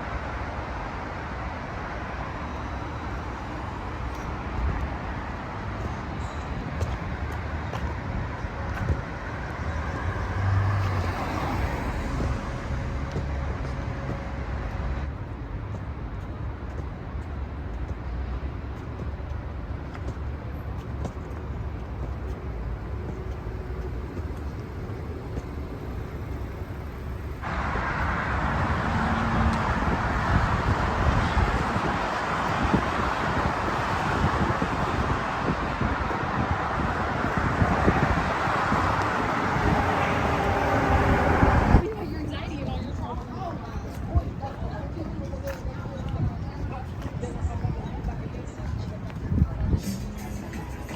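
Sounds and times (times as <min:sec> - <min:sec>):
cars passing: 0:00.0 - 0:50.9
steady road hum: 0:00.0 - 0:50.9.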